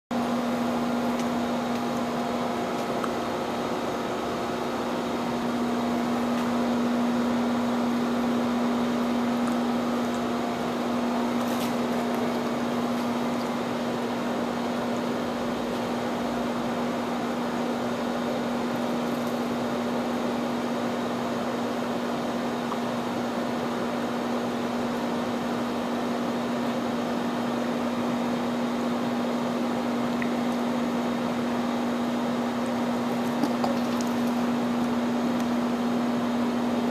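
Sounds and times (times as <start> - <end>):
low machinery hum: 0.1 - 36.9.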